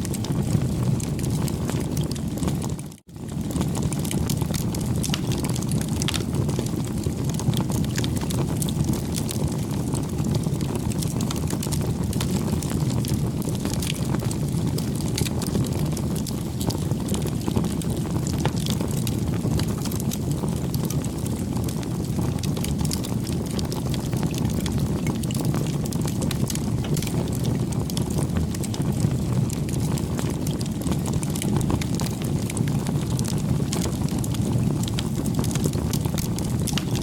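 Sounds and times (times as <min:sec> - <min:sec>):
burning wood crackling and popping: 0:00.0 - 0:37.0
campfire flames rumbling: 0:00.0 - 0:37.0.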